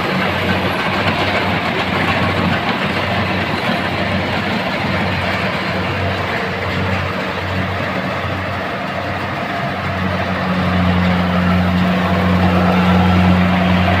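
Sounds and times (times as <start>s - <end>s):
heavy machinery engine humming: 0.0s - 14.0s.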